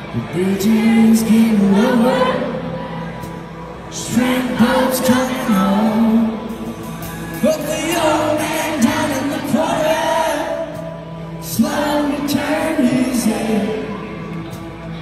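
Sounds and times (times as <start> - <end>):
electric guitar and band backing: 0.0 - 15.0.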